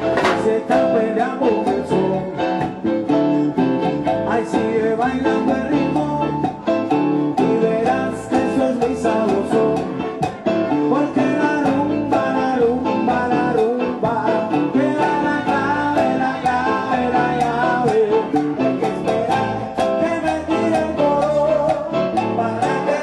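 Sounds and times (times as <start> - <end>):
hand drums rhythm: 0.0 - 23.0
latin jazz band playing: 0.0 - 23.0.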